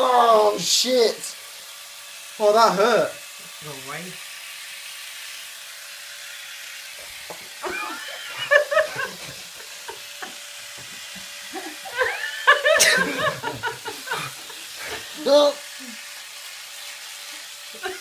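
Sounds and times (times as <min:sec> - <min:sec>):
electric epilator buzzing whir: 0:00.0 - 0:18.0.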